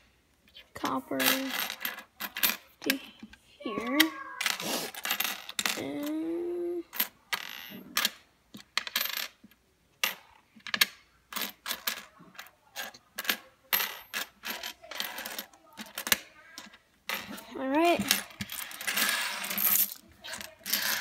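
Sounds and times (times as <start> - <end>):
coins clinking on wooden table: 1.1 - 3.0, 3.9 - 6.2, 6.9 - 21.0.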